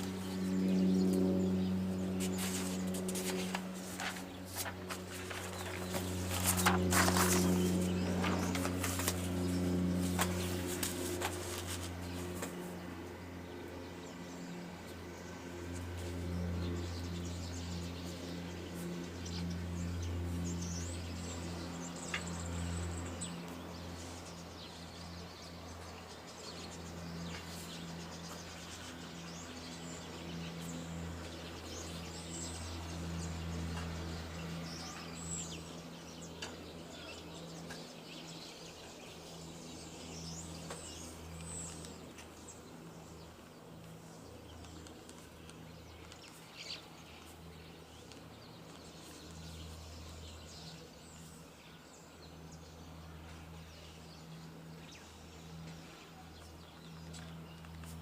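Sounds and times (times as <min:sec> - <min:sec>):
low droning hum: 0:00.0 - 0:58.0
small birds chirping: 0:00.0 - 0:58.0.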